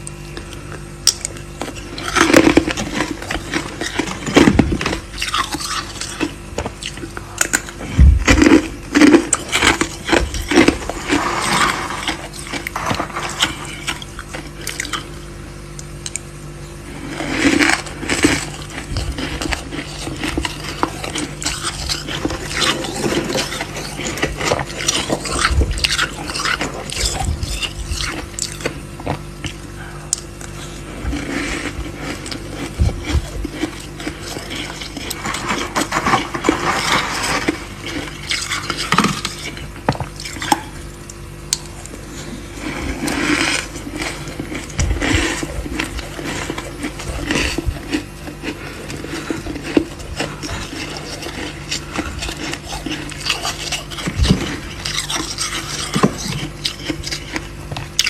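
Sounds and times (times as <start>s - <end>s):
faint steady hum: 0.0s - 58.0s
frost scraping and crunching: 0.0s - 58.0s.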